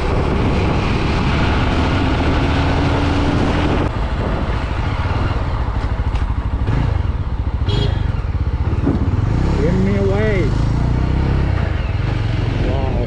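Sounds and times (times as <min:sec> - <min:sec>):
motorcycle engine: 0:00.0 - 0:13.0
wind and road noise: 0:00.0 - 0:13.0.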